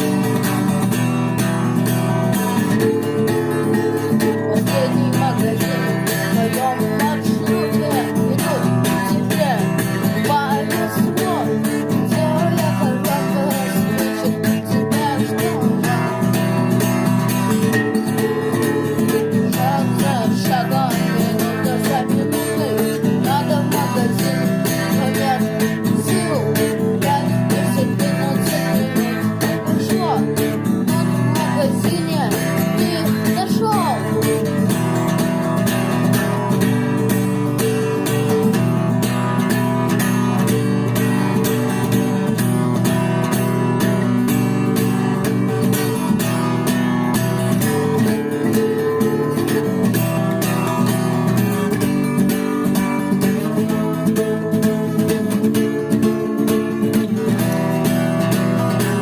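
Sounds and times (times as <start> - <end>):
instrumental rock music: 0.0 - 59.0.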